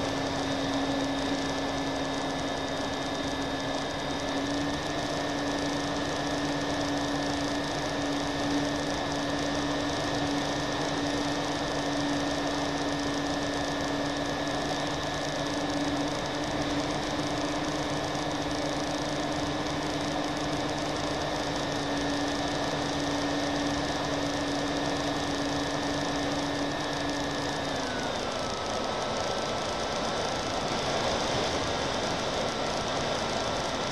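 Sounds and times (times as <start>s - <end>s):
model airplane motors humming: 0.0s - 33.9s.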